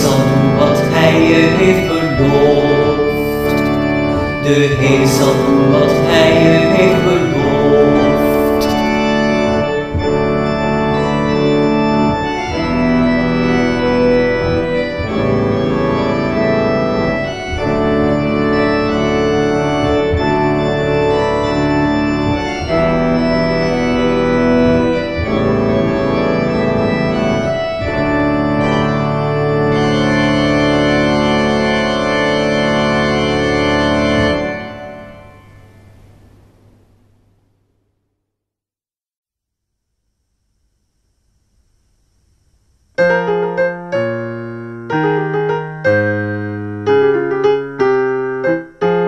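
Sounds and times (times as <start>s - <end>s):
church organ chords: 0.0s - 37.6s, 42.3s - 49.0s.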